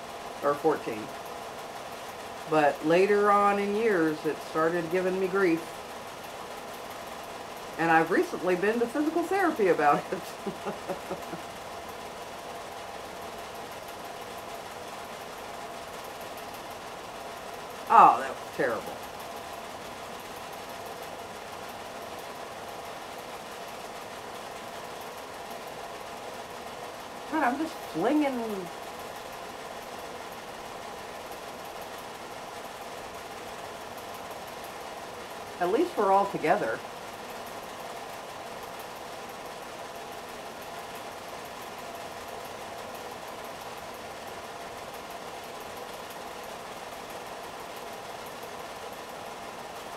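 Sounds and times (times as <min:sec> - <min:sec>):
film projector whirring: 0:00.0 - 0:49.9.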